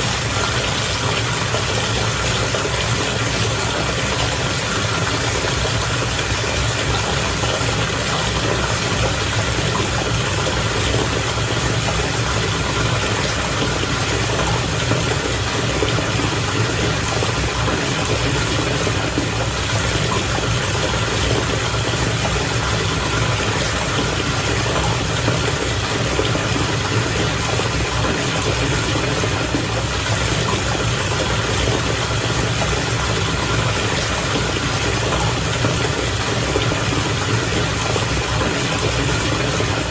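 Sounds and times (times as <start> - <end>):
bath water bubbling: 0.0 - 39.9.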